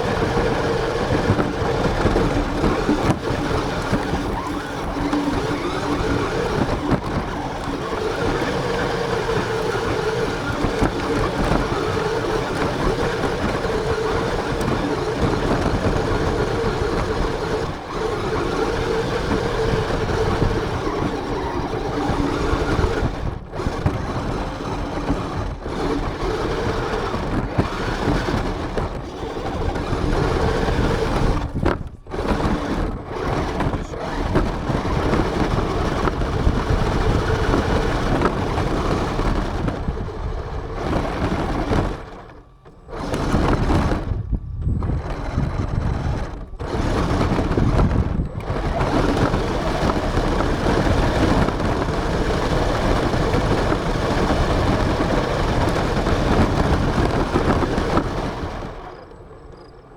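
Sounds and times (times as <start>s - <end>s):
rc car motor humming: 0.0s - 59.9s
wheels rumbling on ground: 0.0s - 59.9s.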